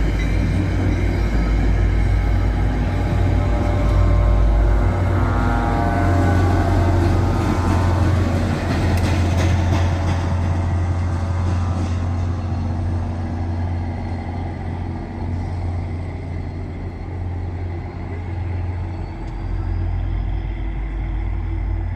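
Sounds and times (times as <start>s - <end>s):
diesel locomotive rumbling: 0.0s - 21.9s.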